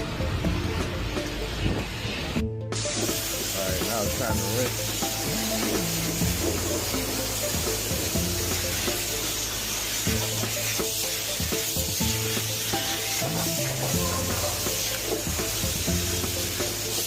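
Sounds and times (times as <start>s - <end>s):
music playing: 0.0s - 17.0s
pressure washer spraying water: 0.8s - 17.0s.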